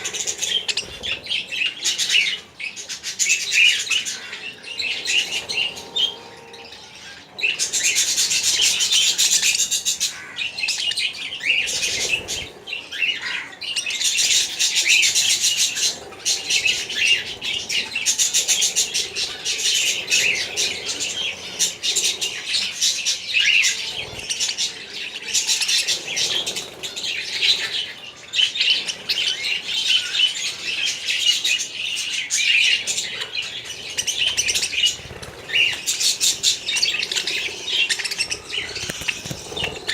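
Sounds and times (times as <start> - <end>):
small birds chirping and chattering: 0.0 - 39.9.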